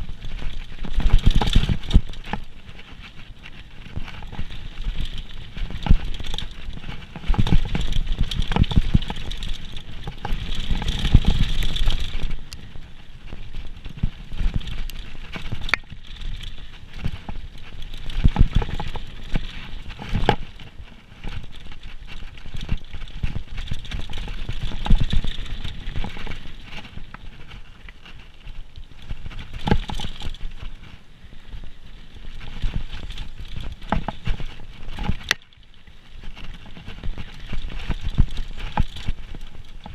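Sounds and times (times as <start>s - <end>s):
mountain bike rattling over bumps: 0.0s - 39.9s
steady rushing noise: 0.0s - 39.9s.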